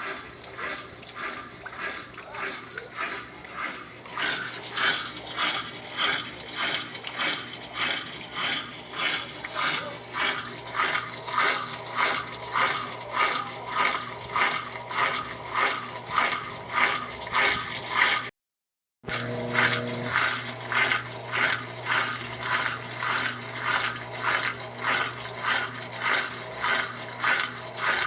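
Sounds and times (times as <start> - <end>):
washing machine motor hum: 0.0 - 18.3, 19.0 - 28.0
washing machine water swishing: 0.0 - 18.3, 19.0 - 28.0.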